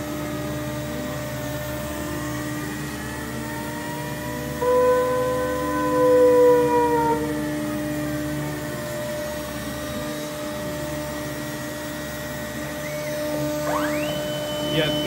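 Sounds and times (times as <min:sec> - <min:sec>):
router spindle whine: 0:00.0 - 0:15.0
sliding machine tone: 0:02.9 - 0:15.0.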